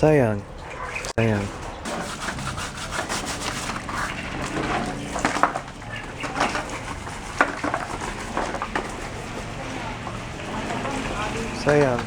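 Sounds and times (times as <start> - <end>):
household objects knocking and clattering: 1.8 - 12.0.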